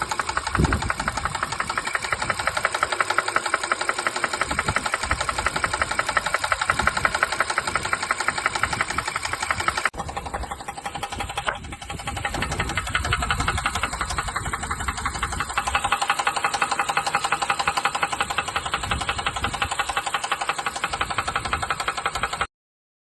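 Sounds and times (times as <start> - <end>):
car engine knocking: 0.0 - 22.5.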